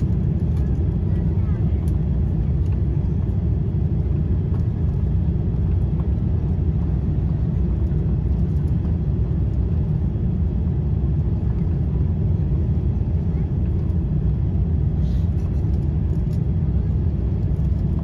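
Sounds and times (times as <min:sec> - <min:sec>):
airplane engines rumbling in cabin: 0:00.0 - 0:18.0.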